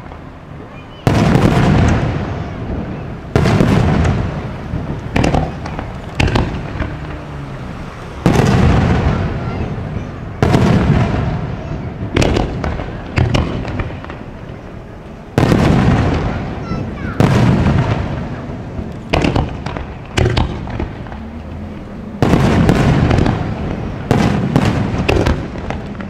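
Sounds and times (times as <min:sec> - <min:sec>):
fireworks bursting with rumbling tail: 0:00.0 - 0:26.0.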